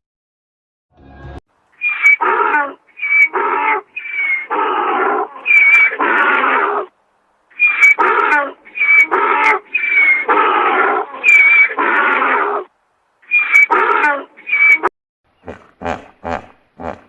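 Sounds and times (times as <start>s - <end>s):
farm animal calling: 1.8s - 17.0s.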